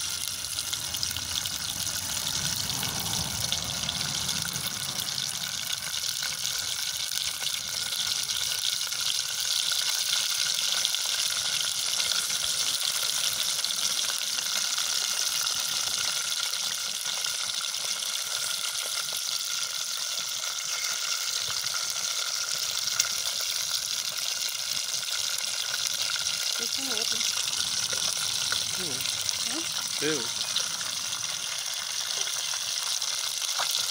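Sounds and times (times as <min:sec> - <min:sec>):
oil popping: 0:00.0 - 0:16.7, 0:21.2 - 0:33.9
fish frying in hot oil: 0:00.0 - 0:33.9.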